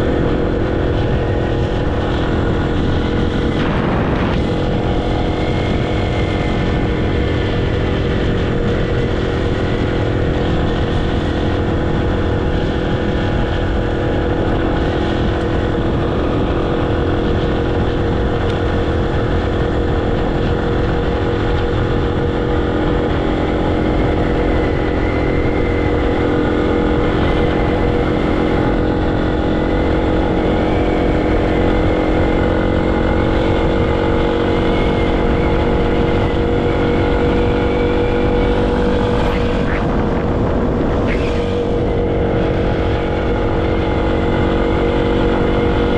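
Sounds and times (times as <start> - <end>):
motorcycle engine humming: 0.0 - 45.9.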